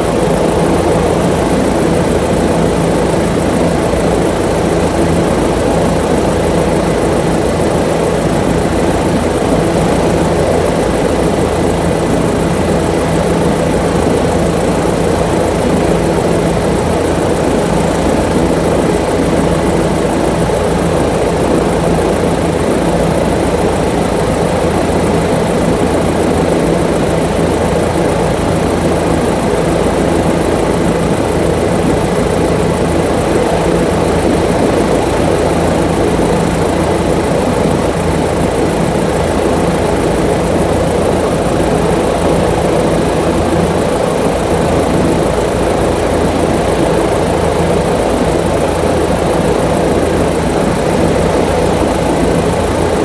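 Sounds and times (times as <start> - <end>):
small aircraft engine drone: 0.0 - 53.0.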